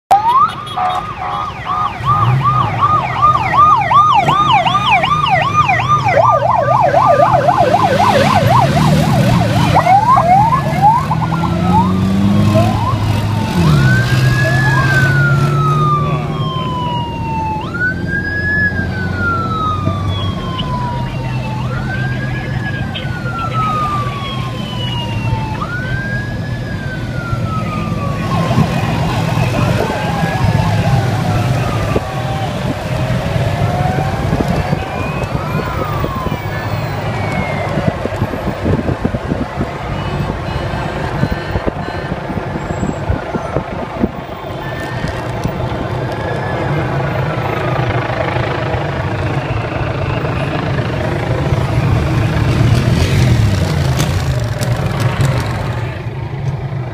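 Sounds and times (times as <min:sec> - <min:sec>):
motorcycle and vehicle engines rumbling: 0:00.0 - 0:56.9
police sirens yelping and wailing: 0:00.1 - 0:56.9.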